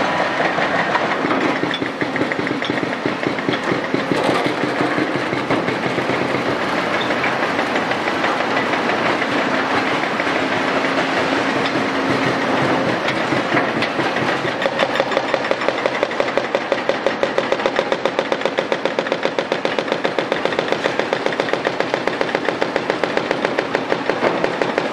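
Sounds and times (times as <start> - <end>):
excavator diesel engines: 0.0 - 24.9
rapid hydraulic hammering: 0.4 - 24.9.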